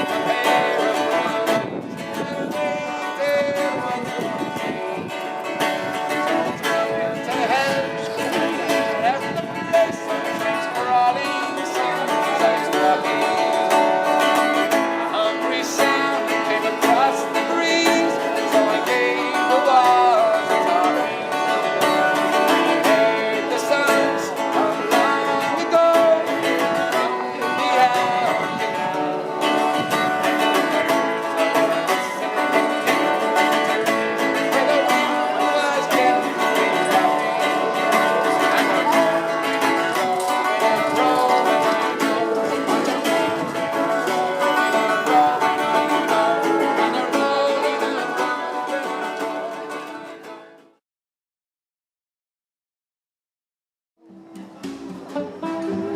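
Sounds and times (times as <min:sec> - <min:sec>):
folk music on plucked strings: 0:00.0 - 0:50.8, 0:54.0 - 0:55.9.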